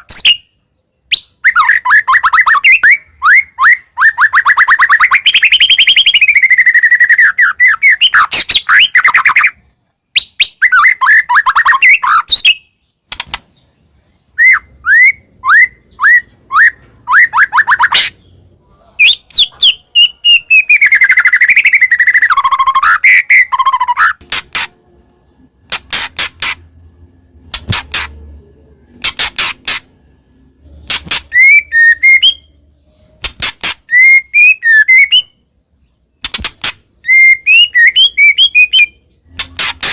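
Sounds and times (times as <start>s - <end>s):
songbird whistling and chirping: 0.0s - 39.9s.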